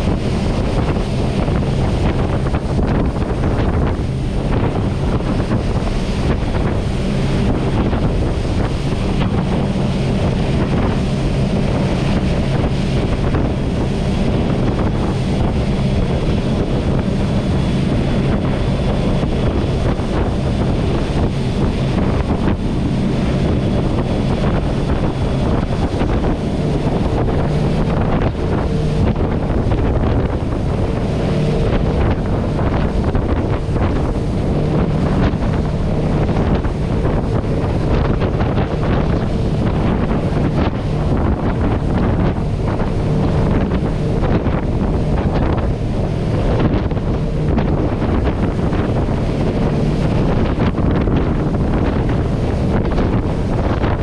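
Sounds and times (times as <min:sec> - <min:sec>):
boat diesel engines running: 0:00.0 - 0:54.0
rush of jet wake: 0:00.0 - 0:54.0
wind buffeting microphone: 0:00.0 - 0:54.0.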